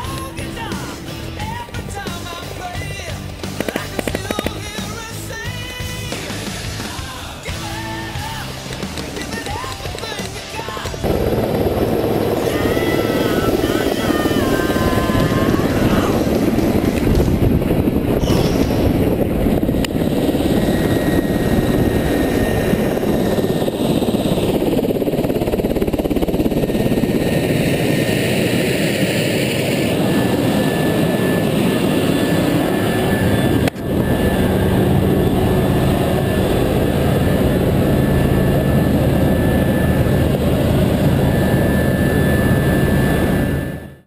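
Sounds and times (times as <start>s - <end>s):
engine whine: 0.0s - 44.0s
helicopter rotor and engine din: 0.0s - 44.0s.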